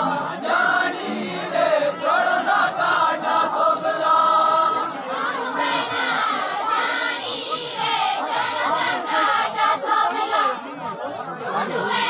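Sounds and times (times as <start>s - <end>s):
crowd noise: 0.0s - 12.0s
group singing folk song in chorus: 0.0s - 12.0s.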